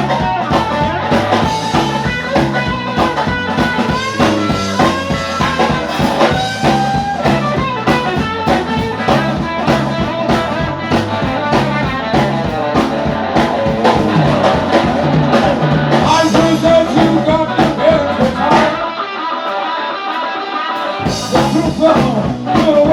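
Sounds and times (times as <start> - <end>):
drum kit steady beat: 0.0 - 18.8, 20.8 - 22.9
blues-rock band playing: 0.0 - 22.9.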